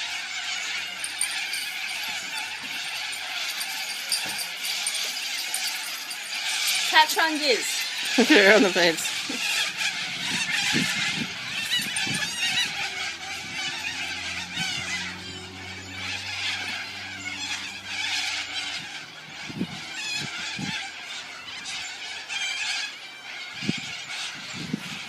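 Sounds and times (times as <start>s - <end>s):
cockatoos screeching: 0.0s - 25.0s.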